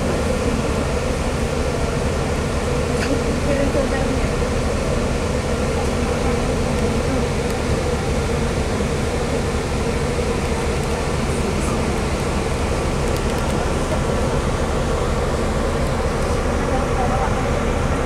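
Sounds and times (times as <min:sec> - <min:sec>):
bus engine drone: 0:00.0 - 0:18.0.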